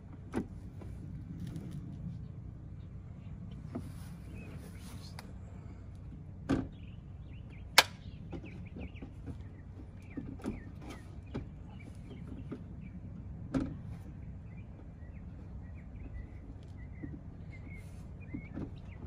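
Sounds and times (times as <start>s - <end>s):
birds chirping: 1.6s - 19.0s.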